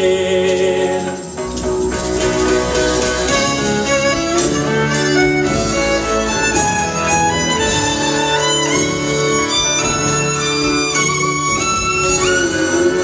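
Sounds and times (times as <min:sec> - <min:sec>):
live band: 0:00.0 - 0:13.0
drum: 0:00.8 - 0:13.0
fiddle playing a melody: 0:02.0 - 0:13.0.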